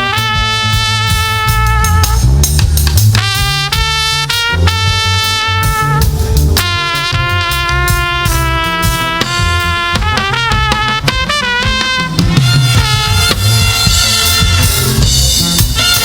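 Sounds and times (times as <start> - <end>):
gospel band music: 0.0 - 16.0.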